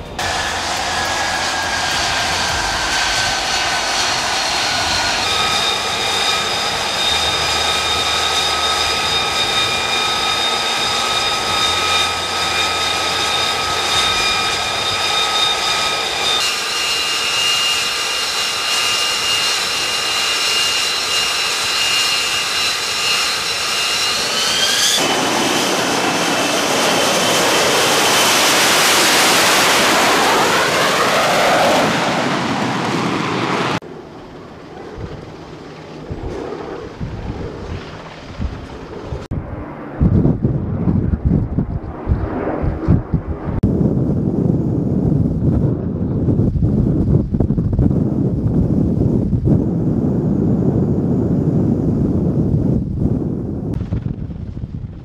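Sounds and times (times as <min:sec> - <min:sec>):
jet engine turbine whine: 0:00.0 - 0:55.0
loud rushing jet noise: 0:00.0 - 0:55.0.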